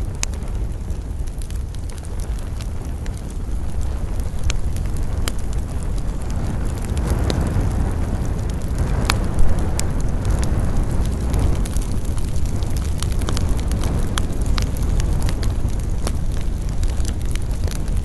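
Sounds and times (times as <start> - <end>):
campfire crackling and popping: 0.0 - 18.0
wind in pine trees: 0.0 - 18.0.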